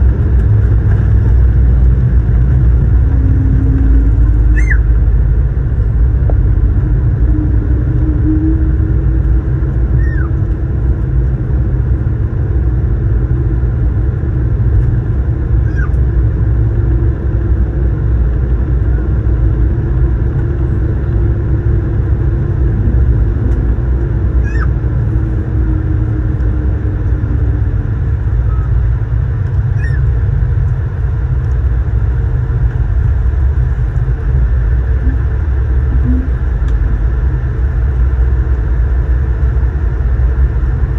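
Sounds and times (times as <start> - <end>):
airplane engines rumbling in cabin: 0.0 - 40.9
faint steady hum: 0.0 - 40.9.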